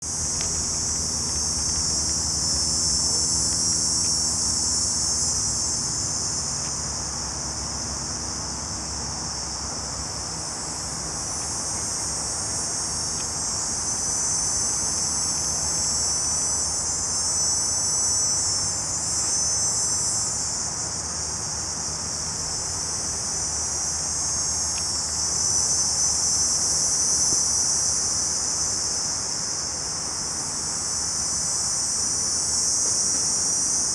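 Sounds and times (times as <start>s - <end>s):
cicadas buzzing: 0.0s - 33.9s
low steady hum: 0.0s - 33.9s.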